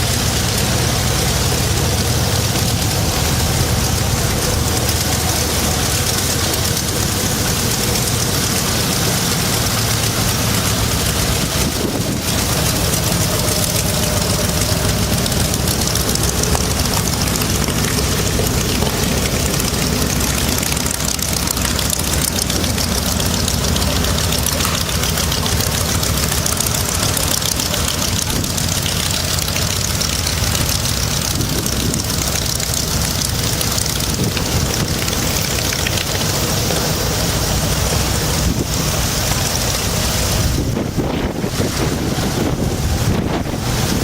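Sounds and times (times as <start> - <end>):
hiss: 0.0 - 44.0
propeller aircraft engine running: 0.0 - 44.0.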